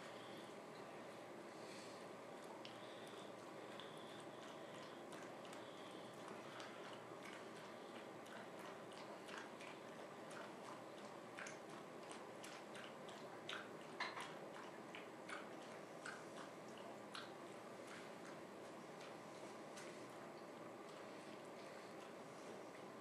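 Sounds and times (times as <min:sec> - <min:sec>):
dog lapping: 0:02.3 - 0:23.0.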